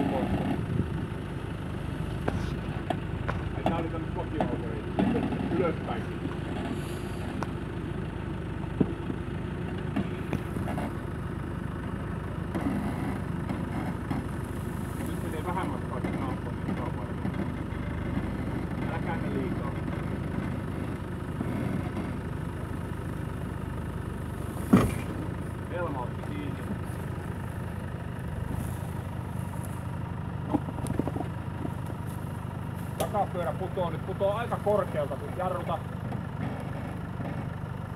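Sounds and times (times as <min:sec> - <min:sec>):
engine running at low revs: 0:00.0 - 0:37.9.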